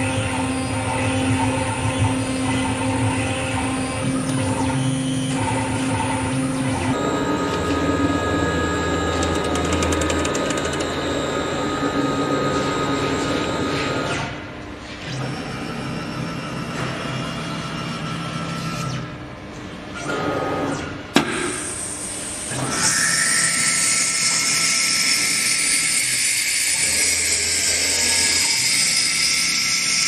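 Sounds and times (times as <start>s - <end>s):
cnc router spindle whine: 0.0s - 19.3s, 22.2s - 30.0s.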